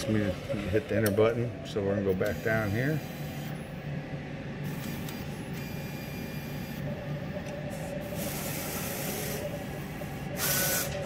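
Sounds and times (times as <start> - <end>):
printer mechanical hum: 0.0 - 11.0.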